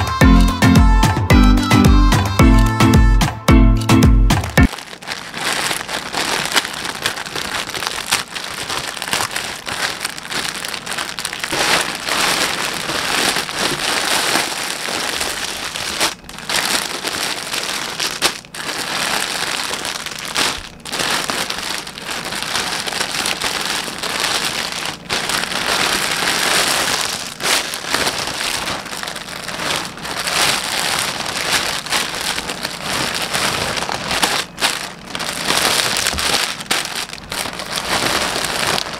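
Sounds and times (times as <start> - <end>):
plastic bags crinkling: 0.0 - 0.2, 4.4 - 38.9.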